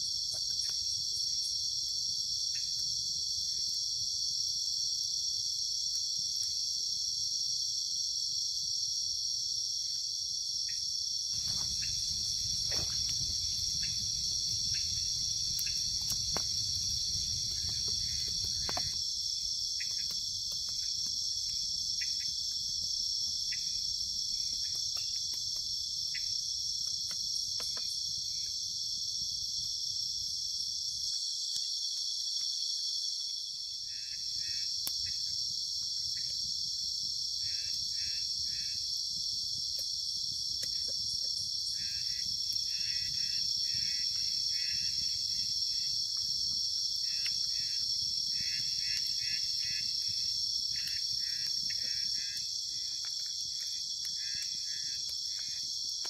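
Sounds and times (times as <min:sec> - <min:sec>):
crickets shrilling: 0:00.0 - 0:56.0
pulsed insect trills: 0:00.0 - 0:56.0.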